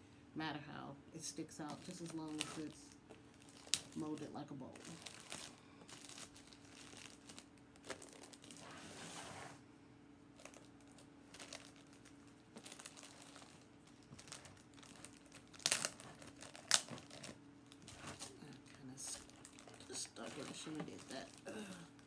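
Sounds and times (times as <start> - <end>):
plastic sheeting crinkling: 1.6 - 9.5, 10.3 - 22.0.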